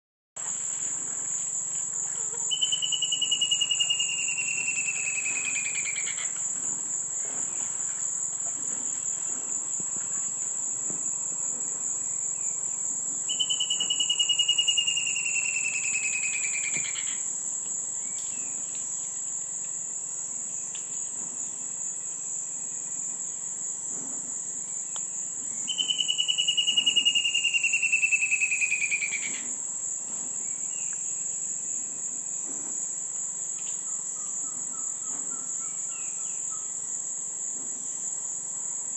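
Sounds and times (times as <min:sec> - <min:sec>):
high insect drone: 0:00.4 - 0:38.9.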